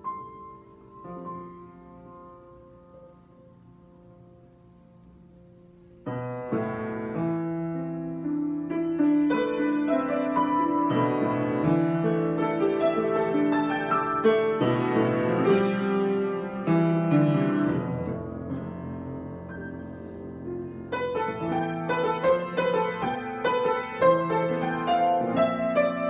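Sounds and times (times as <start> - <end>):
solo piano playing: 0.0 - 26.0.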